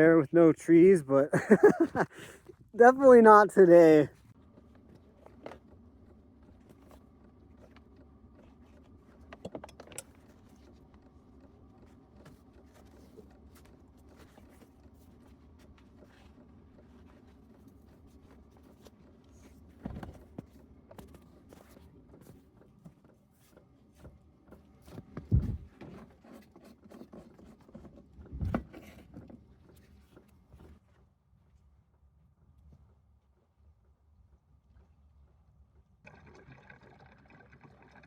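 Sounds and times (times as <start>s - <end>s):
faint clicks and rustling: 4.2s - 35.9s.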